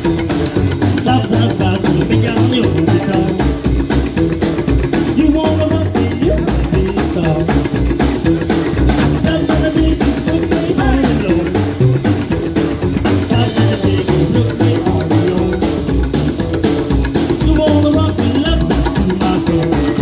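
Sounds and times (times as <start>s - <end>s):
drum kit beat: 0.0s - 20.0s
rock band playing live: 0.0s - 20.0s.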